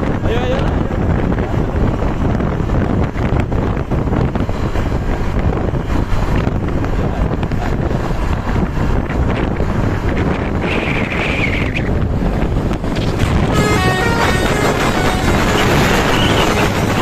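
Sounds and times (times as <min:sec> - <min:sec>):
vehicle engines and road noise: 0:00.0 - 0:17.0
wind buffeting microphone: 0:00.0 - 0:17.0.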